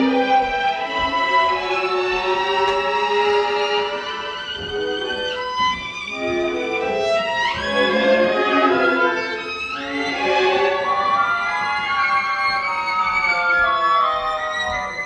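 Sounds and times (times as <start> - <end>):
solo violin: 0.0 - 15.0
symphony orchestra: 0.0 - 15.0.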